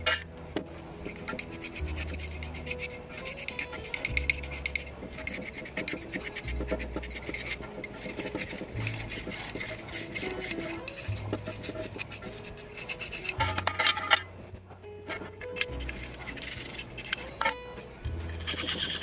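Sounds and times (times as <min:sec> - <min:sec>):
hand file rasping on metal: 0:01.0 - 0:14.3, 0:15.1 - 0:19.0.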